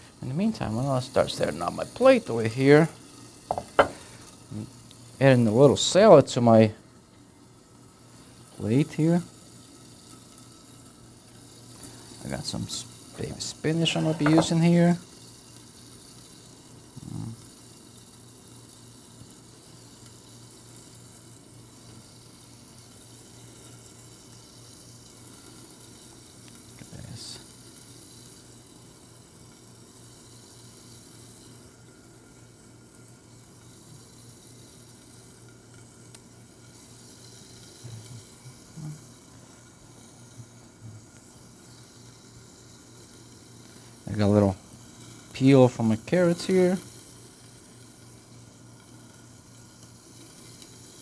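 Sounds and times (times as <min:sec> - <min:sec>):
steady low hum: 0:00.0 - 0:15.7, 0:21.6 - 0:51.0
food sizzling in a frying pan: 0:00.0 - 0:51.0.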